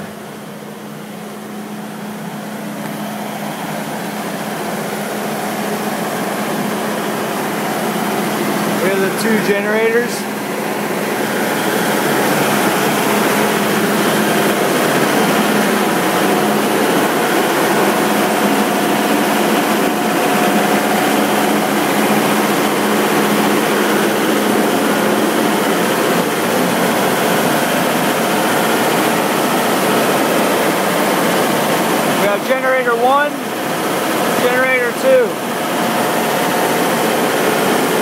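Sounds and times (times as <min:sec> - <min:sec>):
diesel generator drone: 0:00.0 - 0:38.0.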